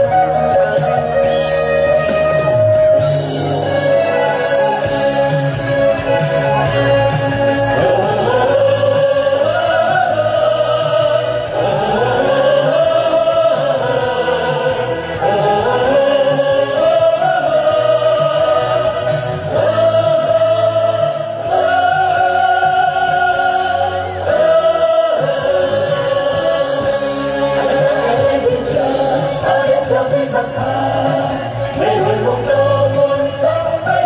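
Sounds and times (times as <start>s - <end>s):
backing music: 0.0s - 34.0s
person singing: 0.0s - 34.0s.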